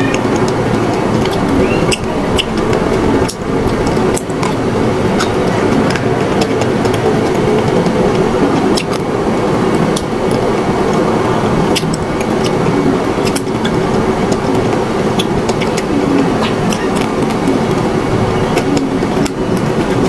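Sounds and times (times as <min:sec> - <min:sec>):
steady loud background noise: 0:00.0 - 0:20.0.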